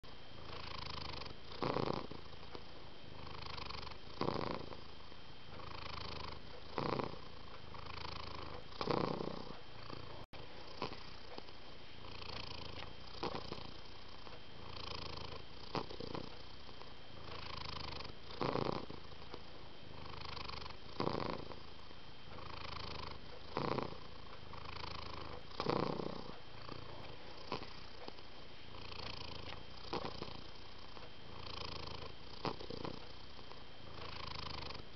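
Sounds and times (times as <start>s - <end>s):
cat purring: 0.4s - 34.9s.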